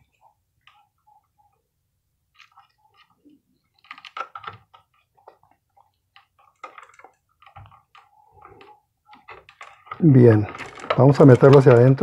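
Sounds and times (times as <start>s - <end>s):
small clicks and scrapes of wires: 0.0s - 1.7s, 2.3s - 12.0s.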